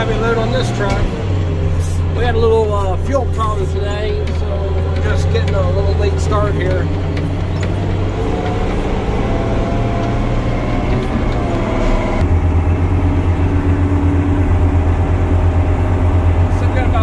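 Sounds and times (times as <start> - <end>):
diesel truck engine running hard: 0.0 - 17.0.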